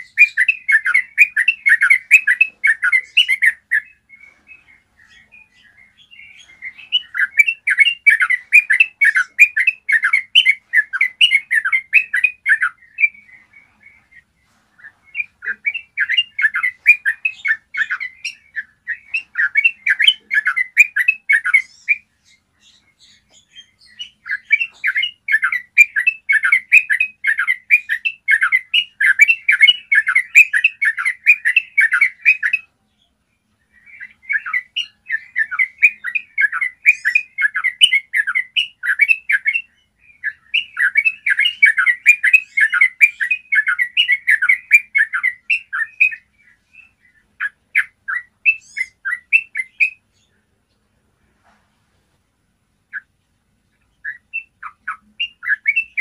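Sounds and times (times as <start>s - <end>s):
bulbul singing: 0.0s - 50.8s, 52.7s - 56.0s.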